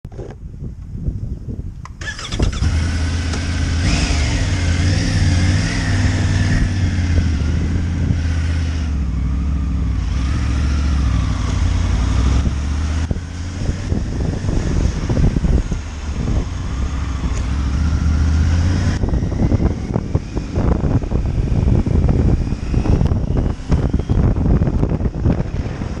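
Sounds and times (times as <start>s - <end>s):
motorcycle engine starting and idling: 1.9s - 26.0s.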